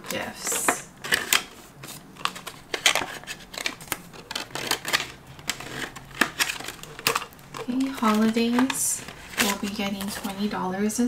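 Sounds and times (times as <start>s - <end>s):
paper banknotes crackling: 0.0s - 10.6s.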